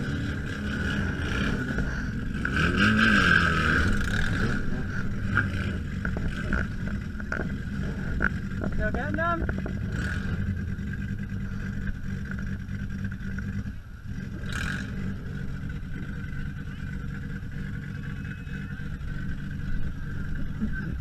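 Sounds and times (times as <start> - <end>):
car engine running: 0.0 - 21.0
steady whine: 0.0 - 21.0.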